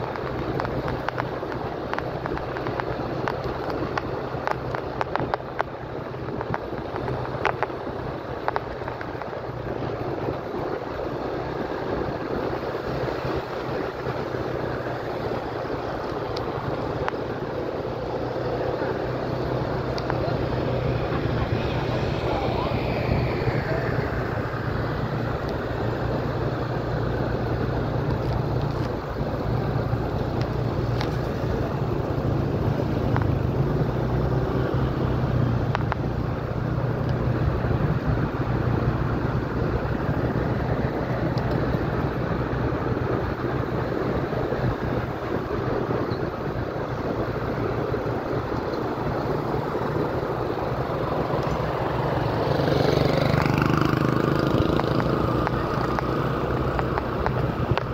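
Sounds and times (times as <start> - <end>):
road noise: 0.0 - 57.9
vehicle engine humming: 0.0 - 57.9.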